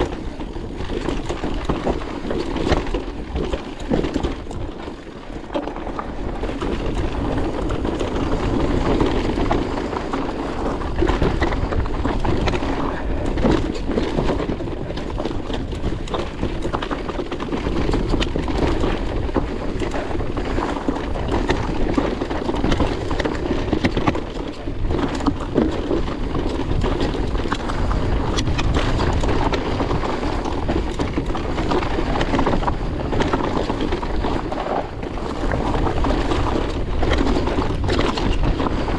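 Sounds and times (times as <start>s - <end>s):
bike and gravel rattling: 0.0s - 38.9s
bike tyres rumbling over stones: 0.0s - 38.9s.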